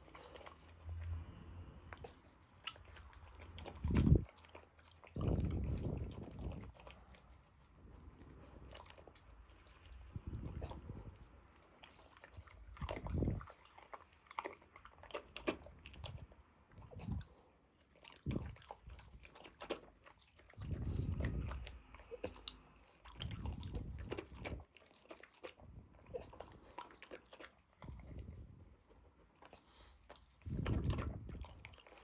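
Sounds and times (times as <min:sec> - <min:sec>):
dog chewing and crunching food: 0:00.0 - 0:32.0.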